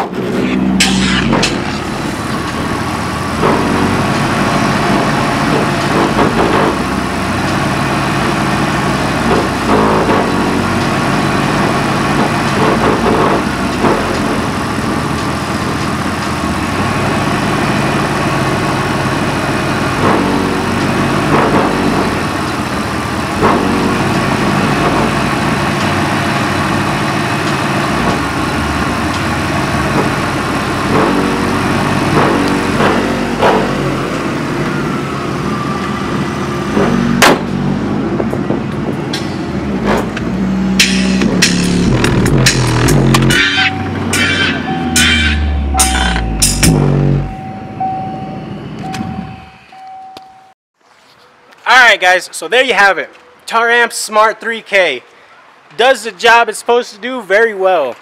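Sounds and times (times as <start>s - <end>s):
car engine idling: 0.0s - 48.1s.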